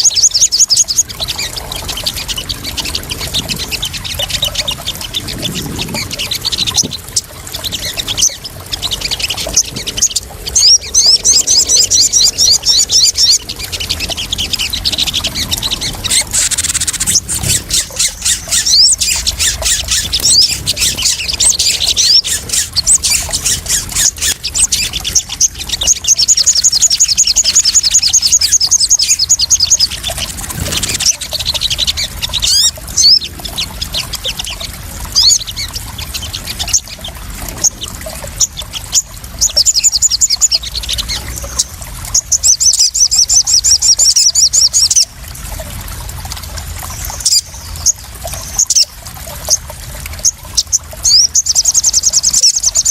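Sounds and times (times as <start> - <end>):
sunbirds trilling: 0.0 - 45.2
water pouring and splashing: 0.0 - 52.9.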